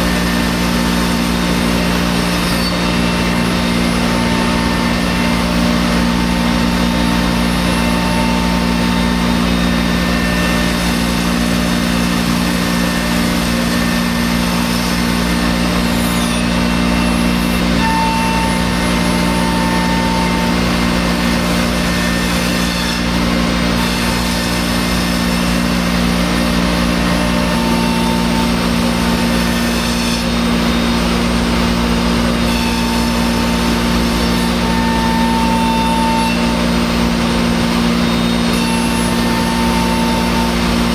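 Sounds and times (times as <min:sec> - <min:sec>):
router spindle milling wood: 0:00.0 - 0:40.9.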